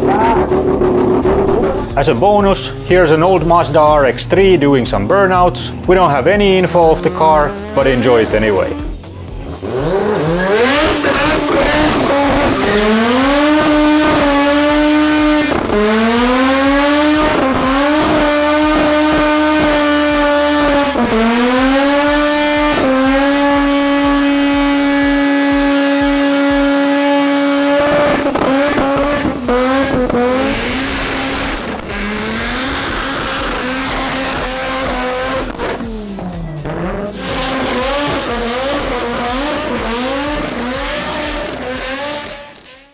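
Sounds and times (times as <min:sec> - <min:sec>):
rotary engine revving: 0:00.0 - 0:42.9
tyre squeal: 0:06.8 - 0:42.9.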